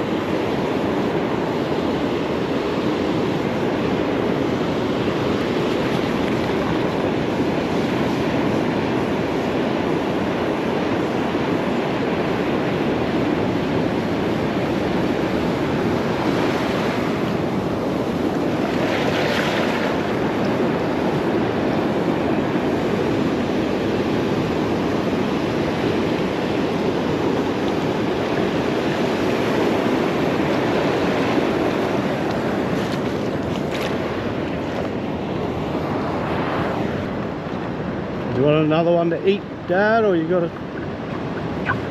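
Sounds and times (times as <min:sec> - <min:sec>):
surf washing onto beach: 0:00.0 - 0:41.9
wind on microphone: 0:00.0 - 0:41.9.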